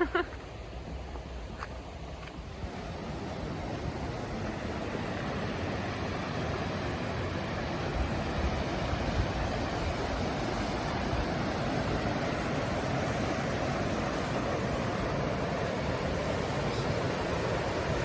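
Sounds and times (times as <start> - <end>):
creek water rushing: 0.4 - 18.0.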